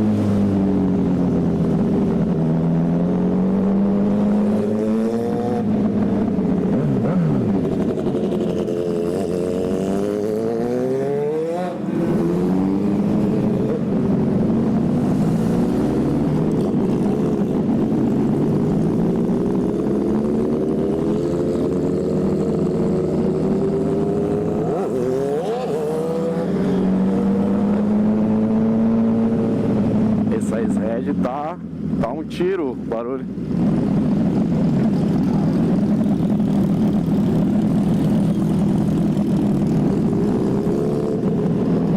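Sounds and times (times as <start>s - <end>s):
motorcycle engine accelerating: 0.0s - 31.0s, 33.5s - 41.9s.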